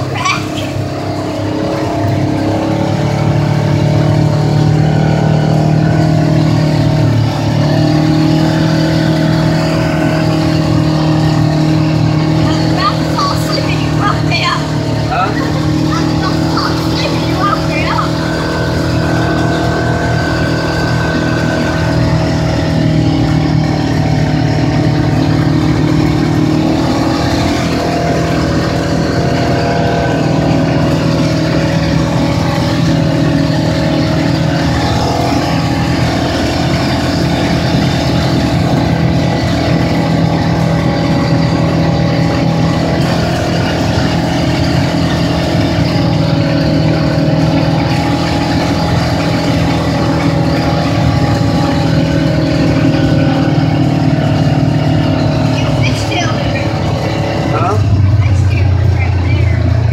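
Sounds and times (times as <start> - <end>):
vehicle engine running: 0.0 - 59.9
wind and road noise: 0.0 - 59.9.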